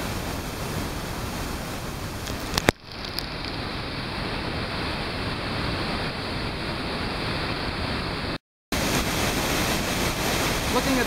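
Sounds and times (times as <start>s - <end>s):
water rushing from dam outlet: 0.0s - 11.0s.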